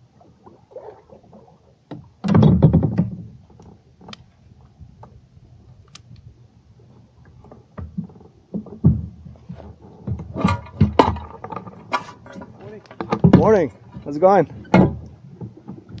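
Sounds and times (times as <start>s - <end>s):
knocks and rattles against kayak: 0.0s - 16.0s.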